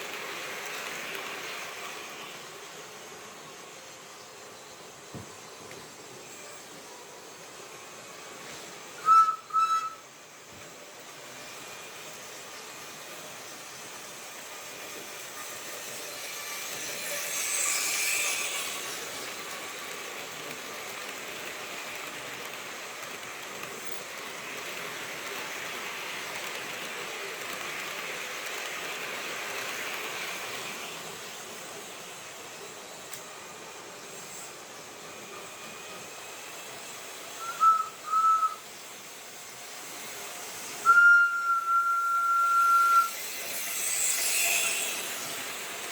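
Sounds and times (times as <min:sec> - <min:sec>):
model train whirring on track: 0:00.0 - 0:45.9.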